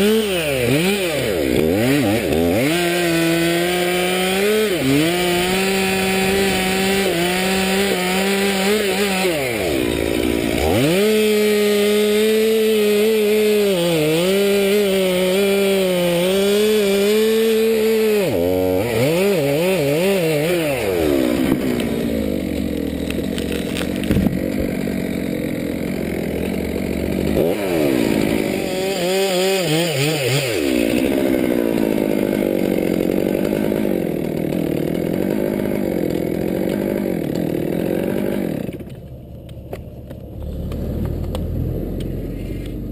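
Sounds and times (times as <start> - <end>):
chainsaw cutting and revving: 0.0 - 42.9.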